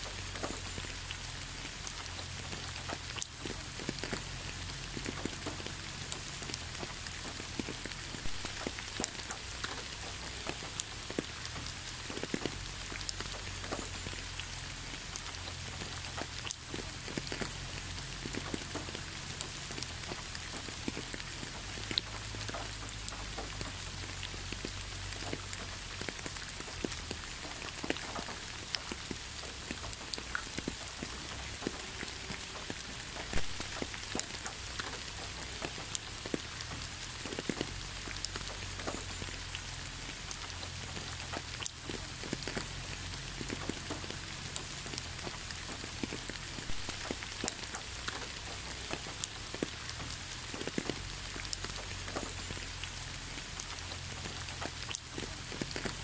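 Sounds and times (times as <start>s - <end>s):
small water splashes: 0.0s - 55.8s
hiss of falling water: 0.0s - 56.0s.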